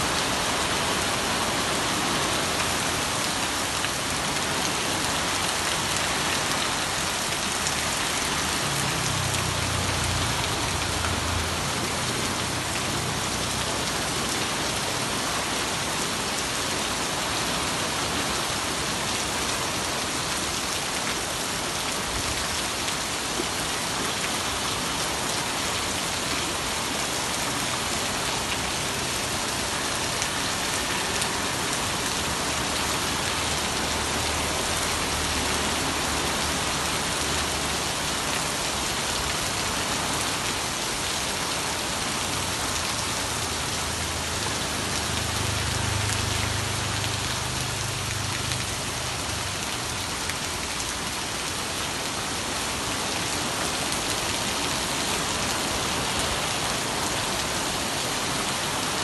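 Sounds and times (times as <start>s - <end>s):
heavy rain on pavement and awning: 0.0s - 59.0s
water running off awning: 0.0s - 59.0s.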